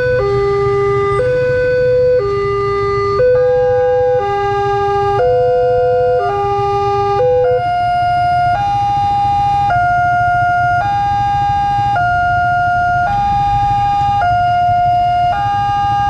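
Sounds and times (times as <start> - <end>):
level crossing two-tone alarm: 0.0 - 16.0
motorcycle engines idling: 0.0 - 16.0.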